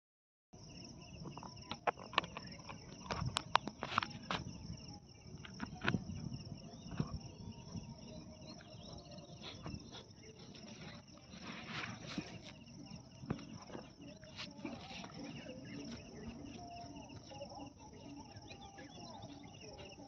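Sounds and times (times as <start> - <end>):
insects chirping: 0.6 - 20.0.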